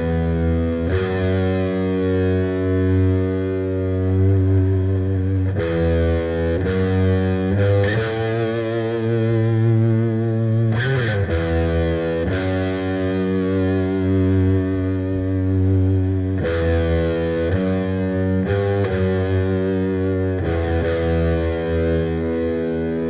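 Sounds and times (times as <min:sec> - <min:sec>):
distorted electric guitar chords: 0:00.0 - 0:23.0.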